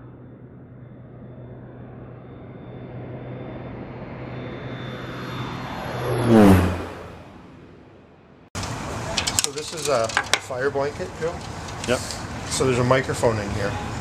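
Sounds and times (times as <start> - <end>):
high engine whine: 0.0 - 14.0
propeller plane flyby: 0.0 - 14.0.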